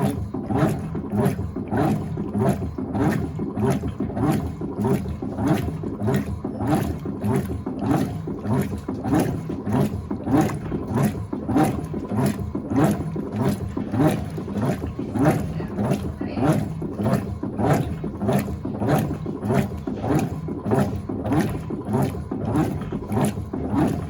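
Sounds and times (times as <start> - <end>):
washing machine agitating: 0.0 - 24.0.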